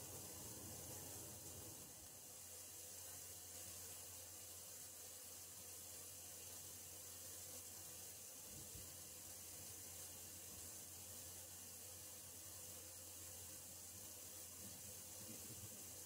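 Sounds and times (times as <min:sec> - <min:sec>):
low steady hum: 0:00.0 - 0:16.0
water running through pipes: 0:00.0 - 0:16.0.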